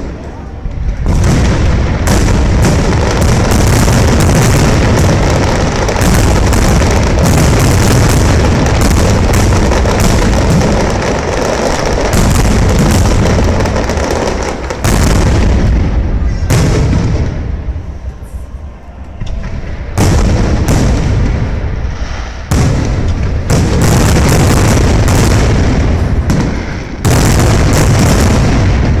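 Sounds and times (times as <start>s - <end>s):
fireworks booms and bursts: 0.0s - 18.1s, 19.2s - 29.0s.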